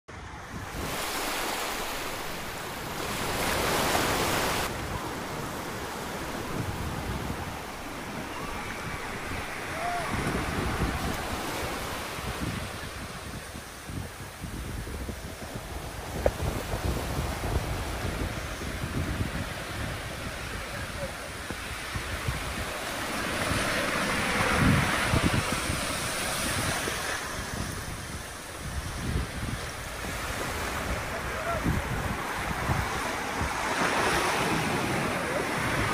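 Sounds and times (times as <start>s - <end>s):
surf washing on sandy shore: 0.1s - 35.9s
wind buffeting microphone: 0.1s - 35.9s.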